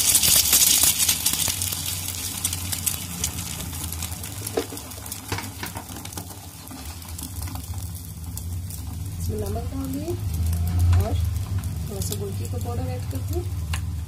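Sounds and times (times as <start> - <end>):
crackles and pops of frying: 0.0 - 14.0
egg sizzling in oil: 0.0 - 14.0
low steady hum: 1.5 - 14.0.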